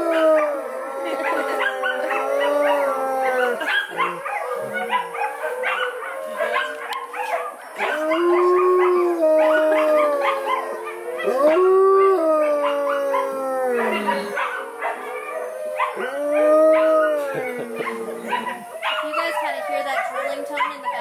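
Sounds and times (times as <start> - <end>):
wolves howling: 0.0 - 21.0.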